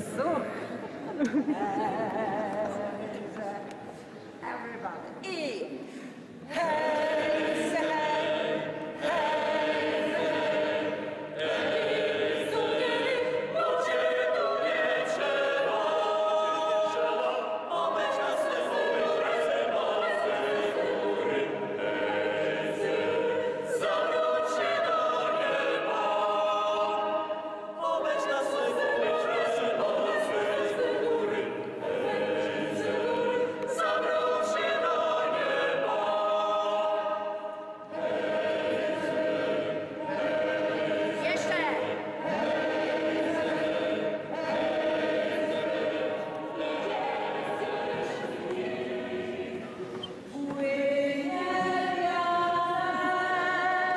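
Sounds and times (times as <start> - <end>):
mixed choir singing a cappella: 0.0 - 4.4, 5.8 - 53.9.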